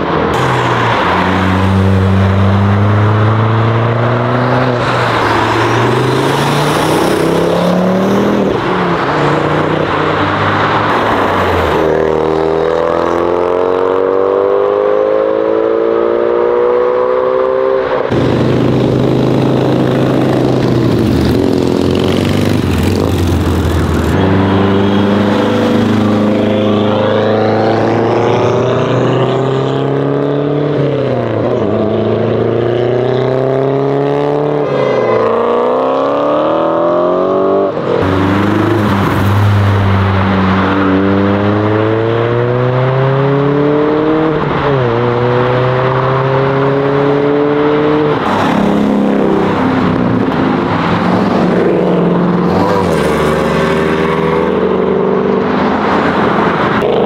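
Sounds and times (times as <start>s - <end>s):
cars accelerating through gears: 0.0s - 57.0s.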